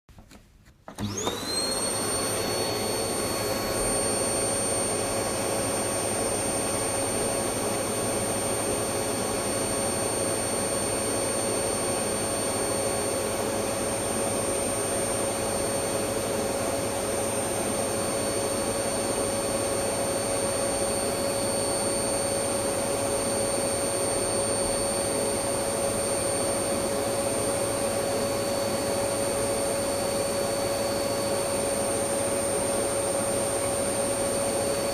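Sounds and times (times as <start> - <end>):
vacuum cleaner running: 0.8 - 34.9.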